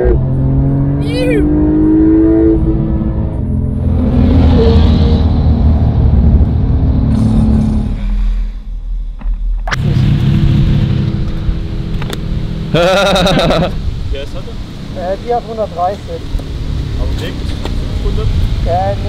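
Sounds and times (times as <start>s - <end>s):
car engine and road rumble: 0.0s - 19.0s
steady rumble: 2.5s - 18.8s.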